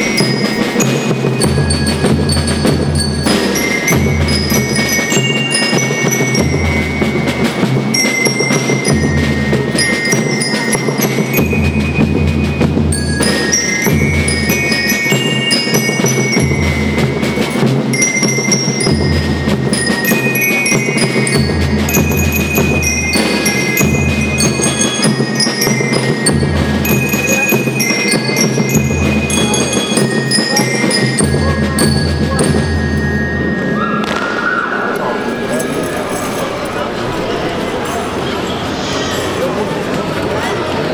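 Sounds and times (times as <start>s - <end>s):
bell lyre melody: 0.0s - 34.1s
snare drumming: 0.0s - 35.0s.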